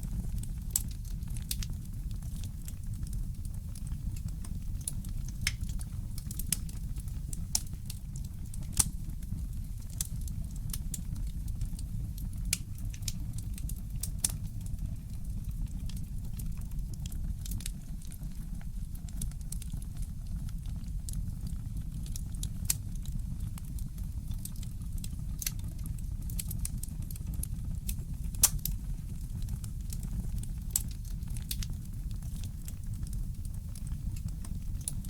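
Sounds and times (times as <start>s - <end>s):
low fire rumble: 0.0s - 35.0s
wood fire crackling: 0.0s - 35.0s.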